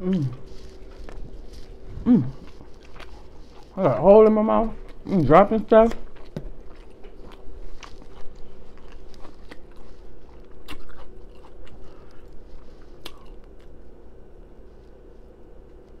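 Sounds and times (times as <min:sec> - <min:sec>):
close chewing and crunching: 0:00.0 - 0:16.0
faint steady hum: 0:00.0 - 0:16.0.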